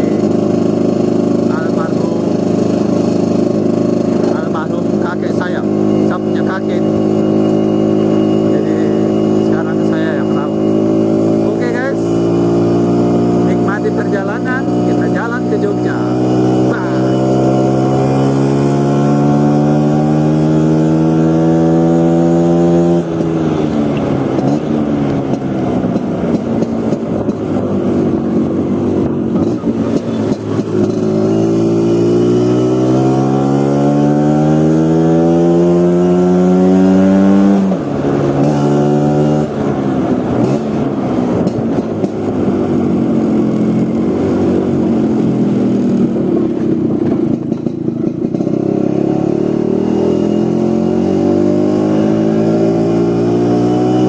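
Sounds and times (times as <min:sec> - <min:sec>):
scooter engine accelerating: 0:00.0 - 0:54.0.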